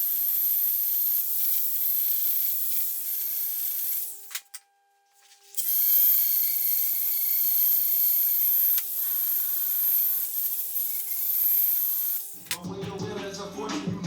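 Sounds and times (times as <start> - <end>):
electric grinder on steel: 0.0 - 4.6, 5.6 - 12.6.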